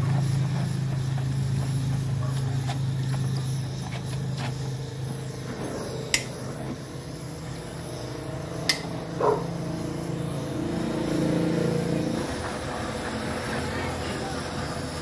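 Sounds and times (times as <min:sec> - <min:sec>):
welding torch flame hissing: 0:00.0 - 0:15.0.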